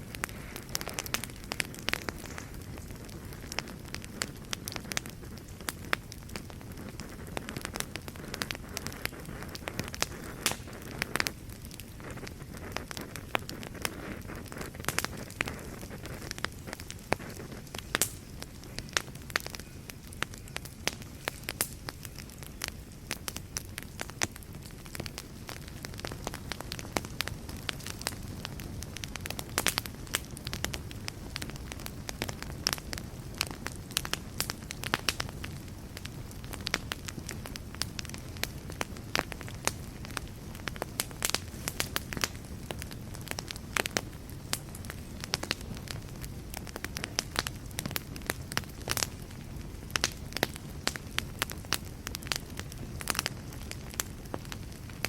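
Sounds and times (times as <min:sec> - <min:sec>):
fire crackling and popping: 0:00.0 - 0:55.0
wood fire hissing: 0:00.0 - 0:55.0.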